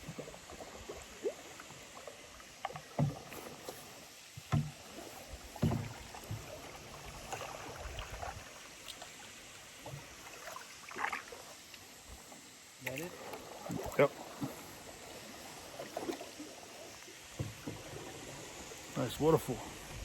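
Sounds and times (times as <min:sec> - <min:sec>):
paddle strokes in water: 0:00.0 - 0:20.0.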